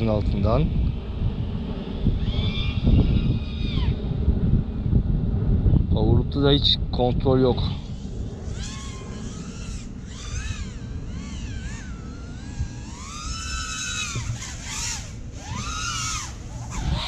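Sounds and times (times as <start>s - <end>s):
low wind rumble: 0.0s - 17.0s
quadcopter motors whining: 0.0s - 17.0s.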